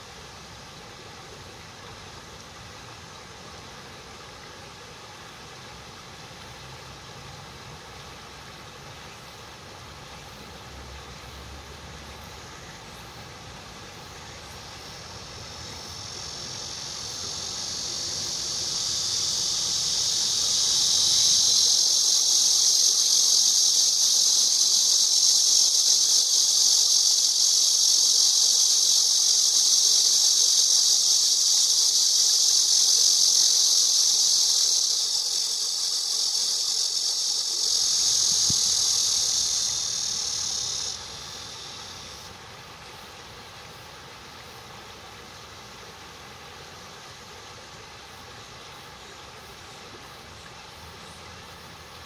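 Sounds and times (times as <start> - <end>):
cicada buzzing call: 10.2 - 52.0.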